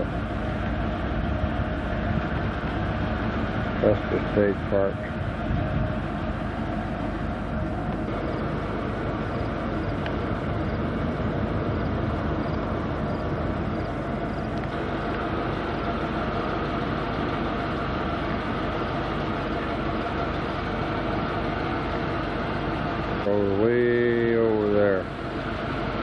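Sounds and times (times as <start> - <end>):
car engine and road noise: 0.0 - 23.8.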